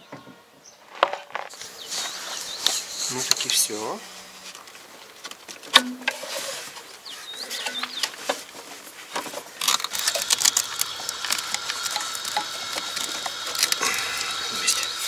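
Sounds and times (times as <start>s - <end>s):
hands rustling and scraping hoses: 0.9s - 15.0s.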